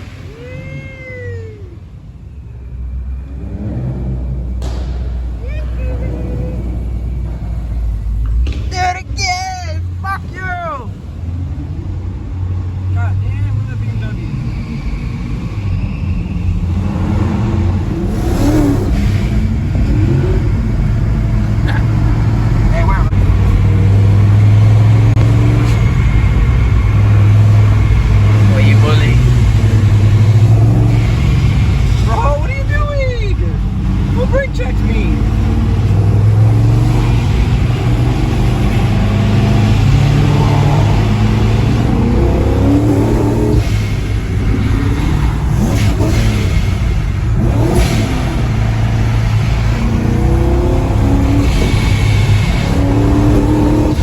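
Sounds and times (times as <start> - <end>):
car engine revving: 2.3 - 54.0.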